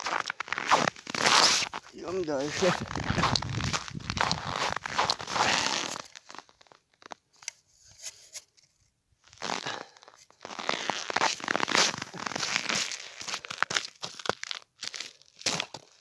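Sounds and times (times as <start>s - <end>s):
boots crunching in snow: 0.0s - 6.8s, 9.3s - 16.0s.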